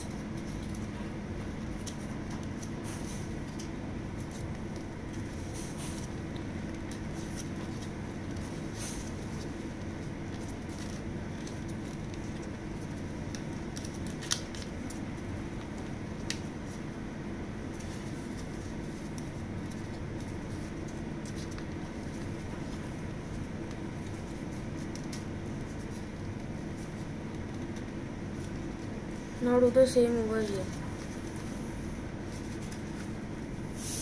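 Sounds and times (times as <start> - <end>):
paper rustling and crinkling: 0.0 - 16.8, 17.7 - 28.9, 30.4 - 34.0
steady background hum: 0.0 - 34.0.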